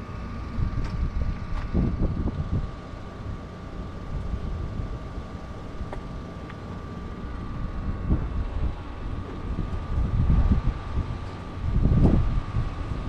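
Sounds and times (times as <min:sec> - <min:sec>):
faint high hum: 0:00.0 - 0:13.0
wind buffeting microphone: 0:00.4 - 0:06.2, 0:07.3 - 0:13.0.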